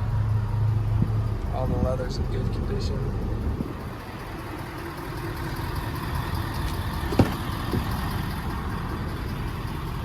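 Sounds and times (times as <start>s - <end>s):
pickup truck engine idling: 0.0s - 10.0s.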